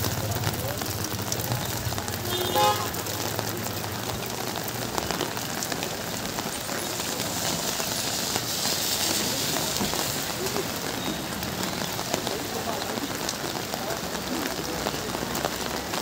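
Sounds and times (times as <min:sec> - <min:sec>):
rain hissing on wet street: 0:00.0 - 0:16.0.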